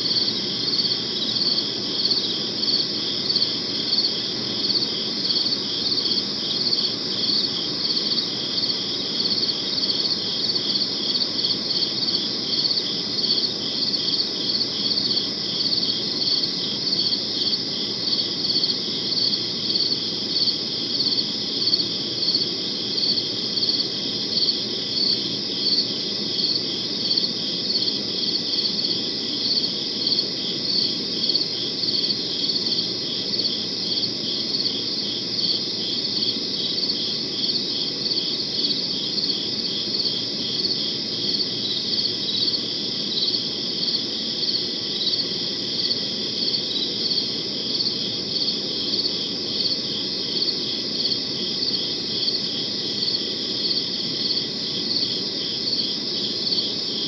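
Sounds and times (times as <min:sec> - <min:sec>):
continuous insect trill: 0:00.0 - 0:57.0
cricket chirping: 0:00.0 - 0:57.0
low steady hiss: 0:00.0 - 0:57.0.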